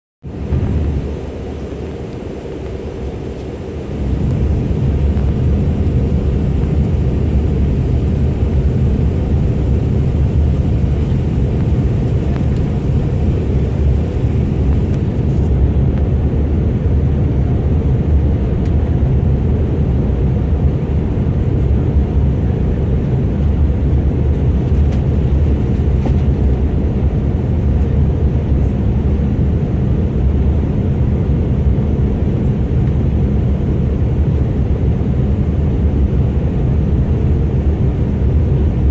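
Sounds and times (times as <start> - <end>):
jet engine and airflow roar: 0.2 - 38.9.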